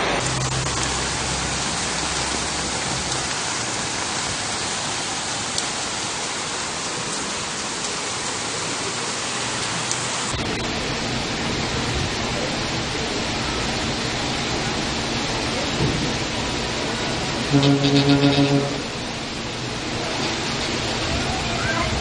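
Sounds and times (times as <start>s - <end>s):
heavy rain pouring on paving: 0.0s - 22.0s.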